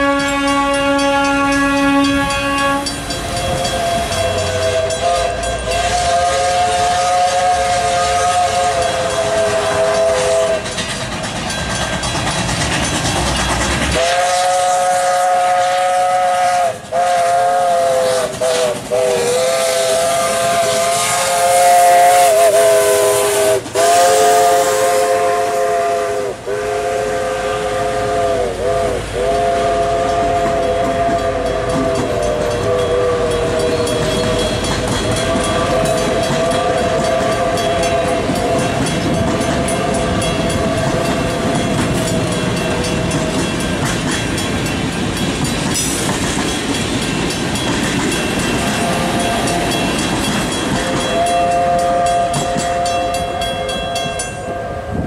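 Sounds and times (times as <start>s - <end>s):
steam locomotive chime whistle: 0.0s - 55.0s
train wheel clatter: 0.0s - 55.0s.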